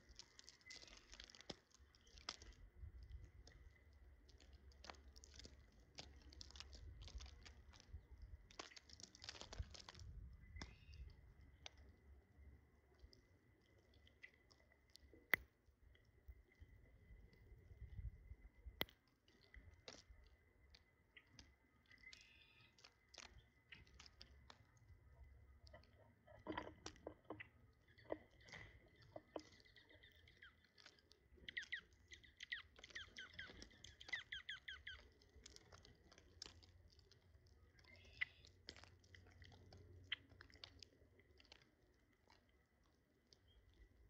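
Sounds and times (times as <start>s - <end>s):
beaks crunching food: 0.0s - 44.0s.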